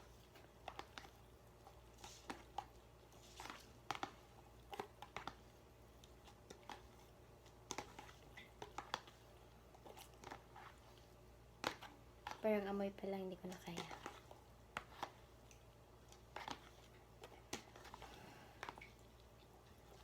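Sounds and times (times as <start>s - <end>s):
utensil clicks and rustles: 0.0s - 20.0s.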